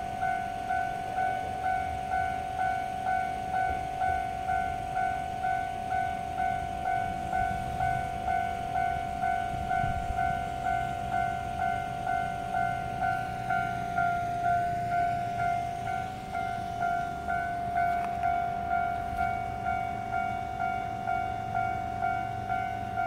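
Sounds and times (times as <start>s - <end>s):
electric train rumbling: 0.0s - 23.0s
level-crossing warning bell: 0.0s - 23.0s.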